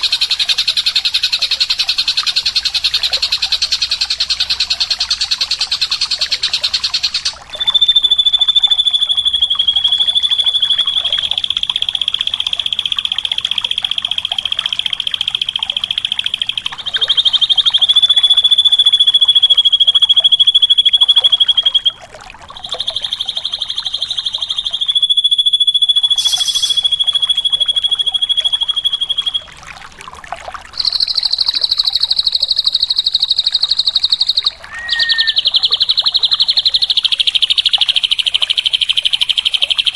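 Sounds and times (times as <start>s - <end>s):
bird buzzing trills: 0.0s - 29.6s, 30.8s - 39.9s.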